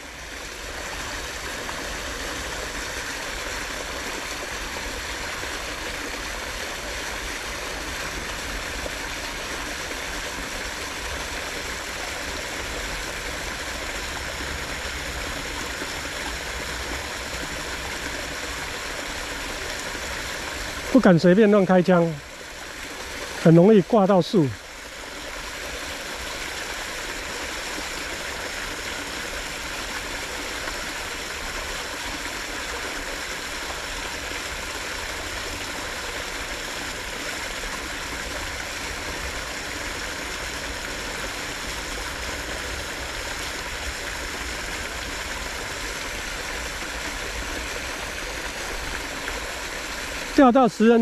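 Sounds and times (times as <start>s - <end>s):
water rushing: 0.0s - 51.0s.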